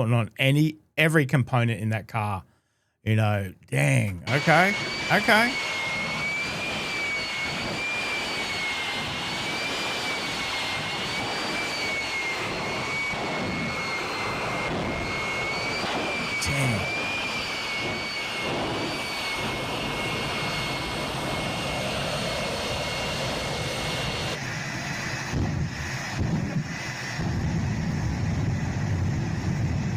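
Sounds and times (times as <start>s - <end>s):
jet engine whine and roar: 4.2s - 29.9s.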